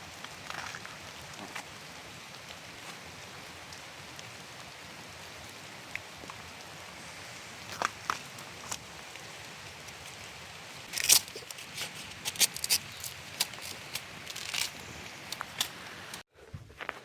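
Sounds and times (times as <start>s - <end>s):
steady hiss: 0.0s - 16.2s
sharp snaps and crackles: 0.1s - 16.2s.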